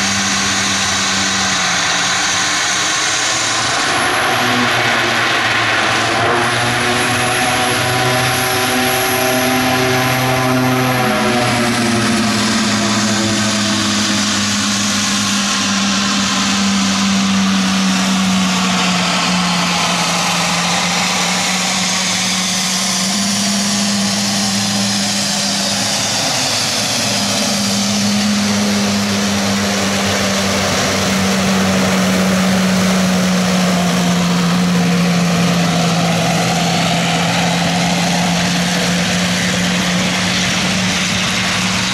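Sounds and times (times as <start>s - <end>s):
high turbine whine: 0.0s - 41.9s
propeller drone: 0.0s - 41.9s.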